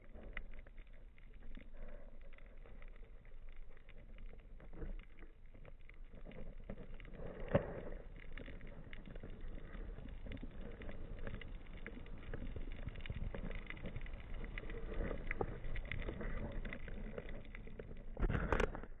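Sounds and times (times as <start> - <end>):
underwater crackling and clicks: 0.0 - 19.0.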